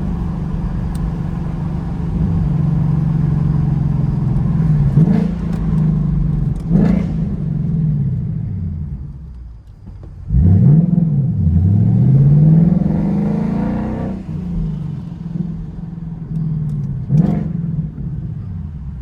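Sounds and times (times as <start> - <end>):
car engine accelerating hard: 0.0 - 9.1, 10.2 - 18.4.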